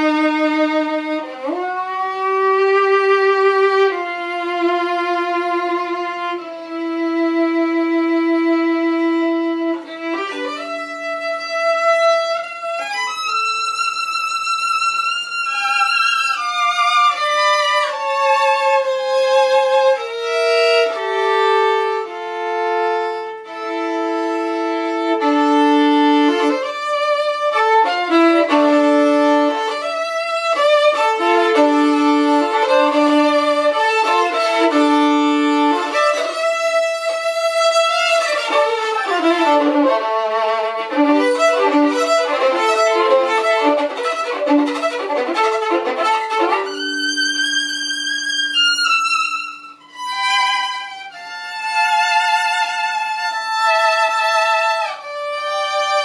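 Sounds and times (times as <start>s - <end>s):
solo violin: 0.0s - 56.0s.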